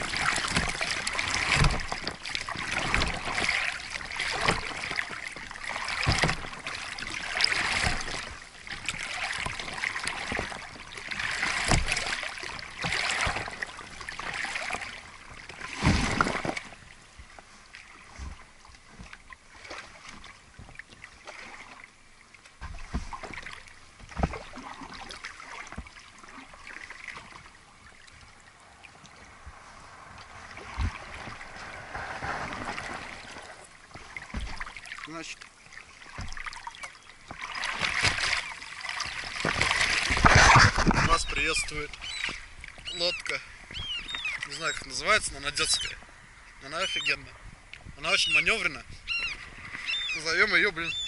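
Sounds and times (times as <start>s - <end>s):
oars splashing water: 0.0s - 51.0s
water lapping at boat: 0.0s - 51.0s.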